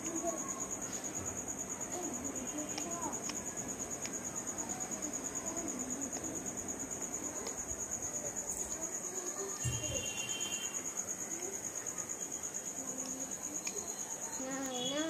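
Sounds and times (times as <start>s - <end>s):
cricket chirping: 0.0s - 15.0s
faint distant voices: 0.0s - 15.0s.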